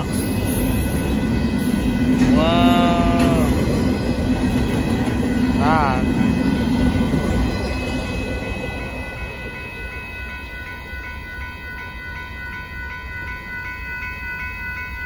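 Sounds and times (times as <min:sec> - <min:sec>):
crossing warning bell ringing: 0:00.0 - 0:15.0
freight train rumbling past: 0:00.0 - 0:15.0.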